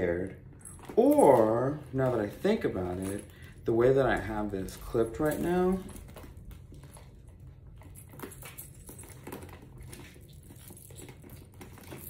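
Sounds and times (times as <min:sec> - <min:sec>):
handbag handling clicks and rustles: 0:00.0 - 0:12.0
low room hum: 0:00.0 - 0:12.0.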